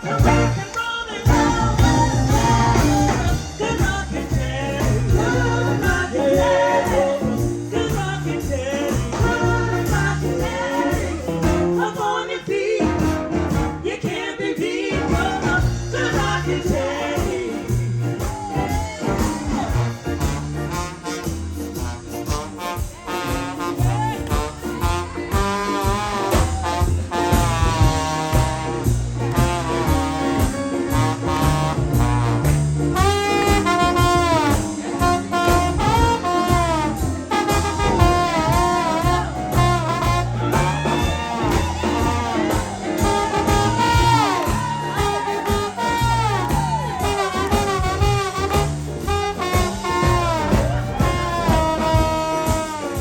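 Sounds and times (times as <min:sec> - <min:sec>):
sliding lead notes: 0:00.0 - 0:11.9, 0:15.0 - 0:53.0
blues band playing: 0:00.0 - 0:53.0.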